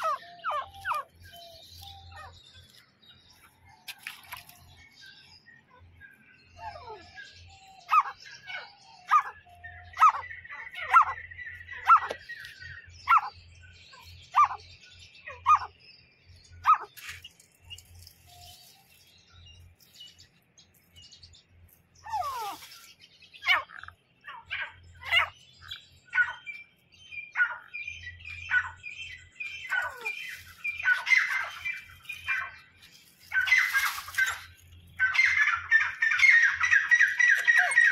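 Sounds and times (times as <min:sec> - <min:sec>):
partridge calling: 0:00.0 - 0:04.4, 0:05.6 - 0:15.8, 0:16.4 - 0:18.8, 0:22.0 - 0:37.9.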